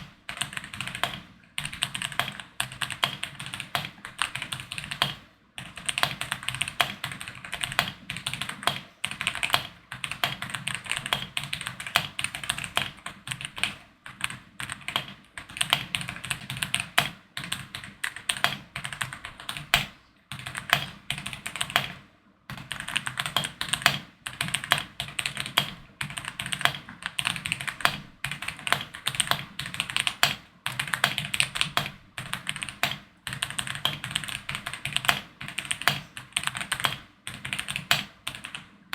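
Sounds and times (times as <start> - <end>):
mechanical keyboard typing: 0.0 - 38.7.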